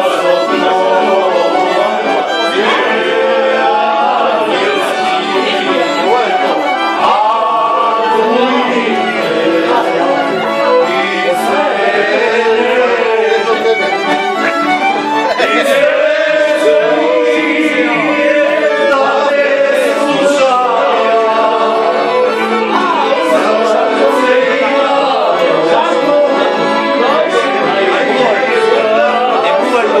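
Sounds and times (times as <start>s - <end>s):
accordion: 0.0s - 30.0s
person singing: 0.0s - 30.0s
violin: 0.0s - 30.0s.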